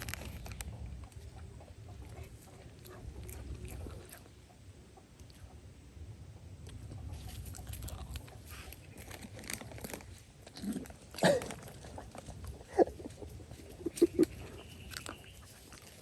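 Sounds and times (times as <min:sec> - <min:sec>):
animal crunching and chewing food: 0:00.0 - 0:05.6, 0:06.6 - 0:16.0.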